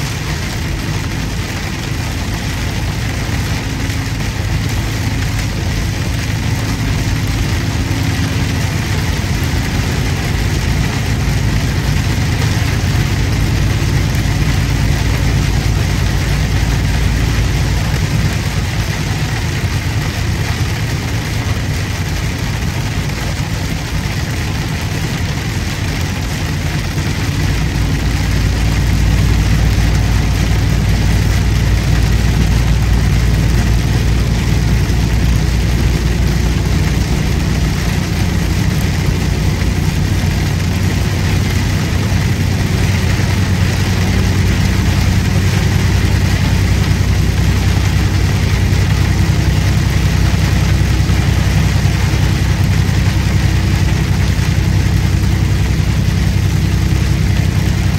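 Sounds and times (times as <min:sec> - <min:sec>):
road and rain hiss: 0:00.0 - 0:57.9
truck engine running: 0:00.0 - 0:57.9.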